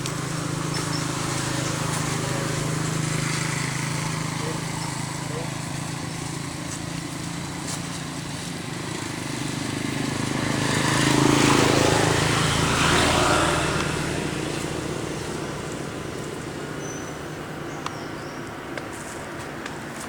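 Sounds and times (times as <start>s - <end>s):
vehicle engine passing by: 0.0s - 17.8s.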